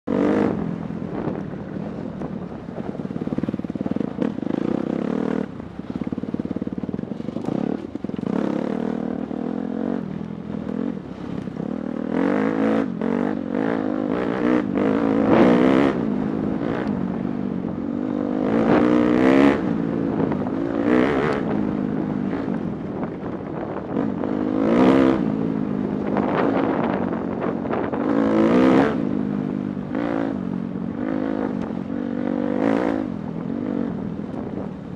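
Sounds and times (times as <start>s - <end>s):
dirt bike engine revving: 3.2s - 33.9s.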